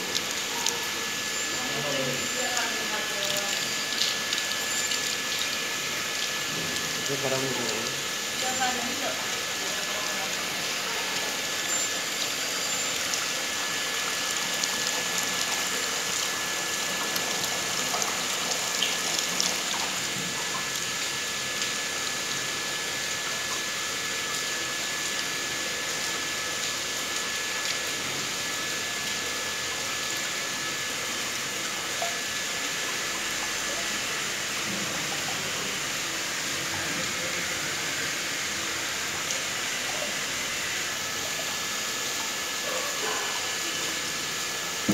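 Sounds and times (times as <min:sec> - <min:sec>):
thin steady whine: 0:00.0 - 0:44.9
water rushing through filter: 0:00.0 - 0:44.9.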